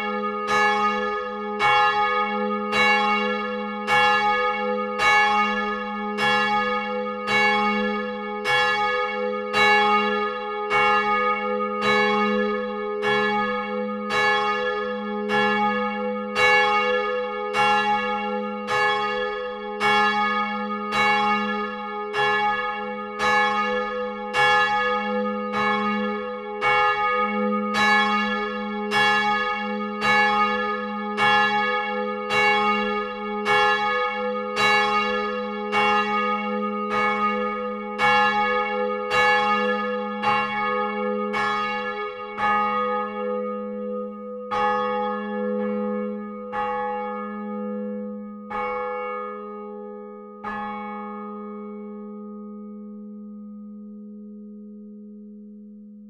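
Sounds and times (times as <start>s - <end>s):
church bell ringing: 0.0s - 55.7s.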